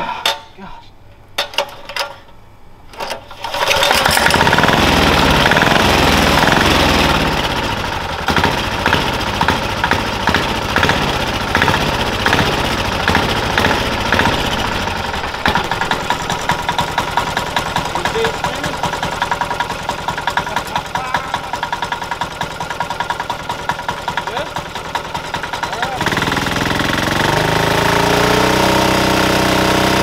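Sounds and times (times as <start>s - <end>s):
go-kart engine starting and idling: 3.0s - 30.0s.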